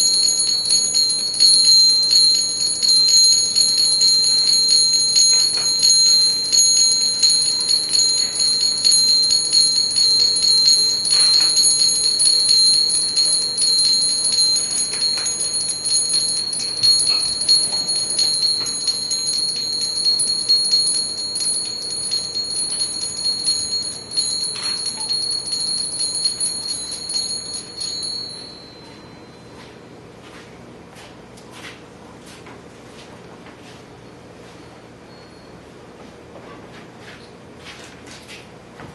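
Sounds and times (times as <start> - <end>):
high ringing tones: 0.0 - 29.9, 34.5 - 35.9.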